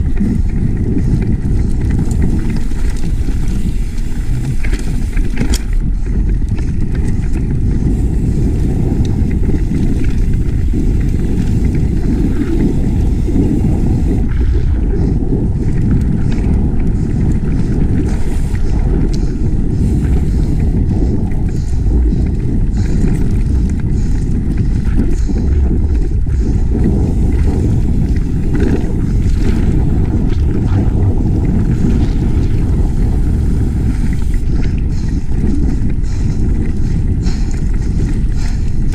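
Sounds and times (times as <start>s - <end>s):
bike knocks and rattles: 0.0s - 14.4s, 15.0s - 38.9s
wind buffeting microphone: 0.0s - 38.9s.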